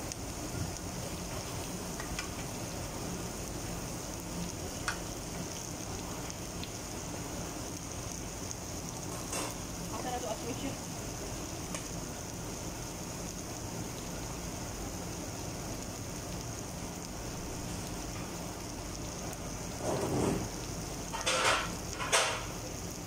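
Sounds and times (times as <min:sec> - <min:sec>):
restaurant room noise: 0:00.0 - 0:23.0.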